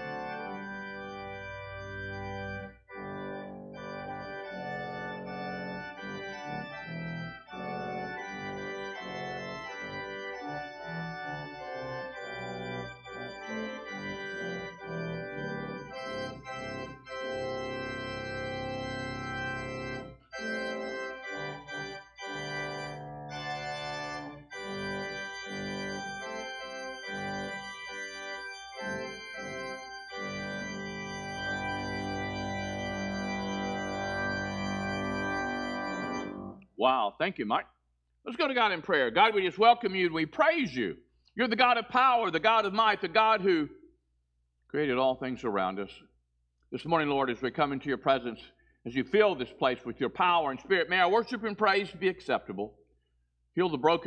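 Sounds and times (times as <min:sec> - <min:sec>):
organ playing chords: 0:00.0 - 0:37.6, 0:38.3 - 0:43.9, 0:46.8 - 0:52.6, 0:53.6 - 0:54.0.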